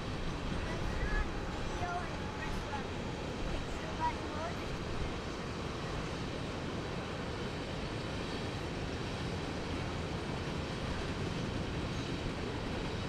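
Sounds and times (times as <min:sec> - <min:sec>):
train passing rumbling: 0:00.0 - 0:13.0.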